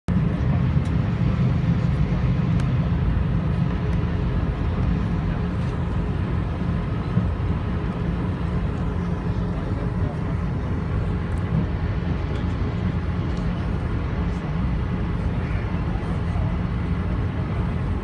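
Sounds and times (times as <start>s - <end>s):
airliner low rumble: 0.1s - 18.0s.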